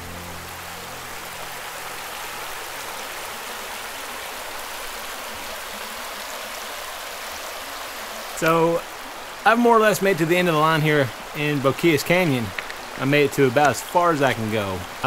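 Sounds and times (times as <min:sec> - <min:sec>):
river water over stones: 0:00.0 - 0:15.0.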